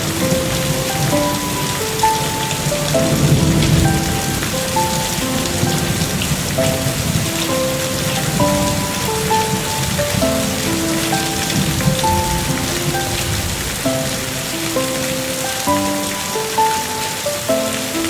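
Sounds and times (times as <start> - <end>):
rain falling: 0.0 - 18.0
slow gentle melody: 0.0 - 18.0.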